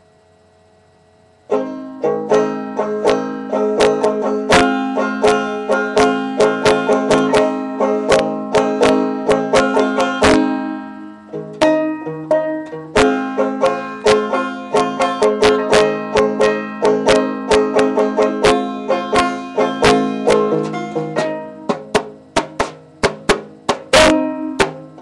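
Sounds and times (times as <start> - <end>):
banjo picking: 1.5 - 25.0.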